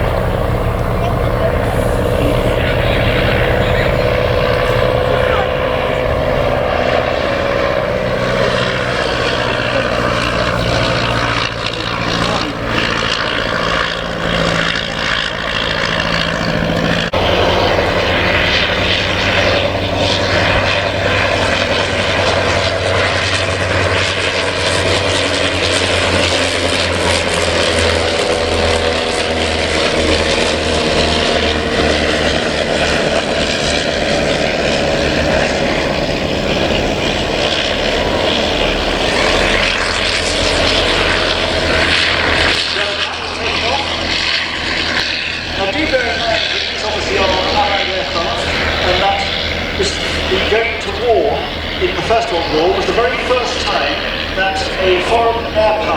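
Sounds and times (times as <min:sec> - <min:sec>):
propeller aircraft engine running: 0:00.0 - 0:55.9.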